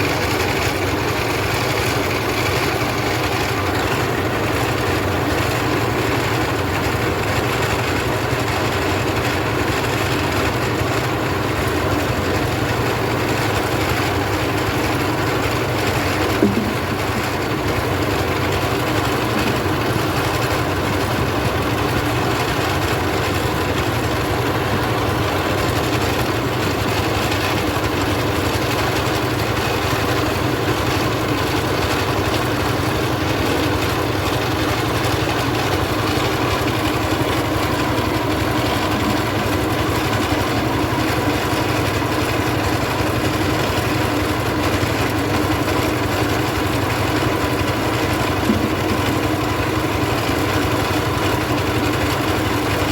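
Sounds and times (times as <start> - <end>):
rice milling machine running: 0.0 - 52.9.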